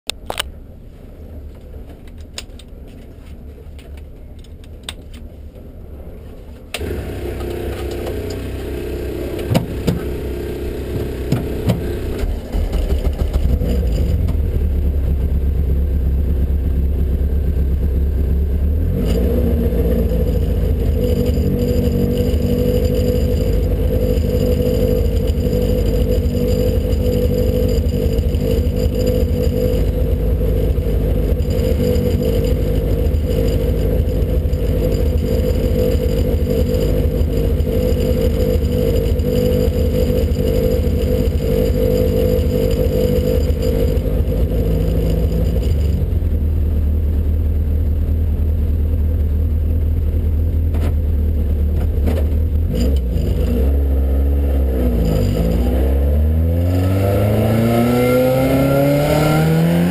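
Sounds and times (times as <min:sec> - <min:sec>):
race car engine idling: 0:00.6 - 0:18.8, 0:20.0 - 0:52.7.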